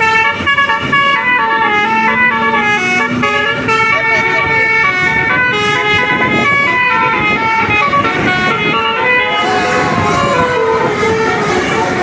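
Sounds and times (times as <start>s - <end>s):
multi-tone bus horn playing a tune: 0.0s - 12.0s.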